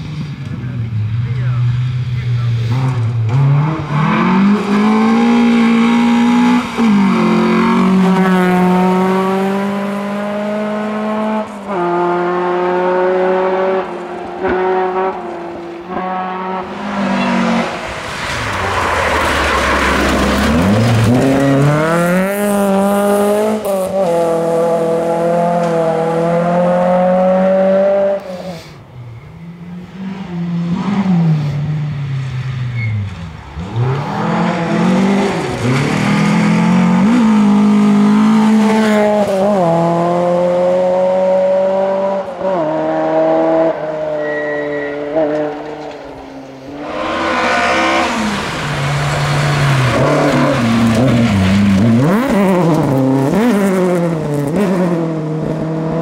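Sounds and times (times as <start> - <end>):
rally car engines at high revs: 0.0 - 28.8, 29.6 - 56.0
gravel spray and tyre noise: 0.0 - 41.5, 43.7 - 56.0.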